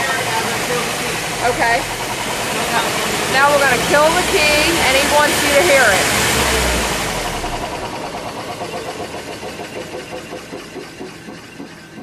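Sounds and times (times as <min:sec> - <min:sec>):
wheel bearing humming: 0:00.0 - 0:12.0.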